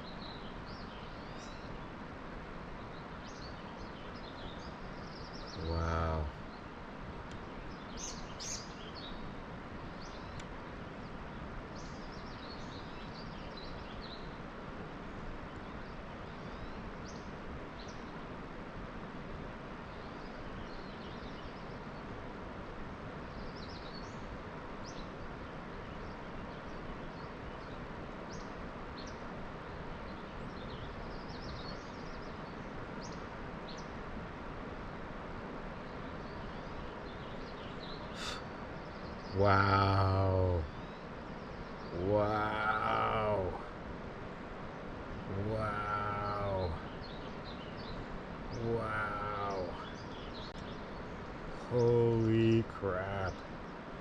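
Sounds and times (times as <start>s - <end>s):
small birds chirping: 0.0s - 18.3s, 19.7s - 22.3s, 23.1s - 54.0s
steady outdoor background rush: 0.0s - 54.0s.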